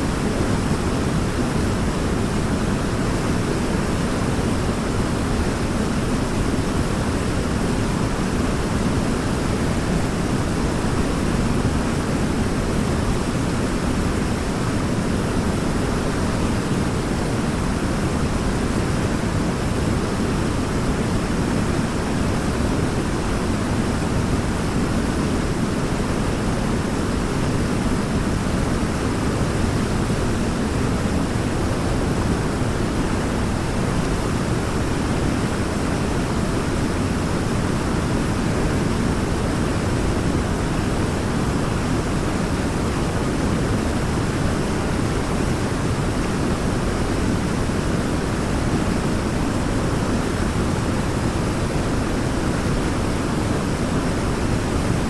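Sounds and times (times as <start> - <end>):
waterfall and river rushing: 0.0 - 55.0.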